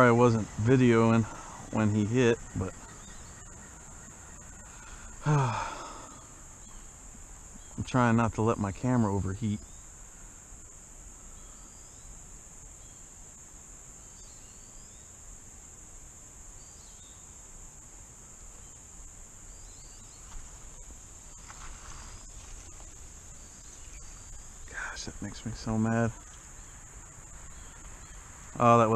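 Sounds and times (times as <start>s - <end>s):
insect chorus drone: 0.0s - 28.9s.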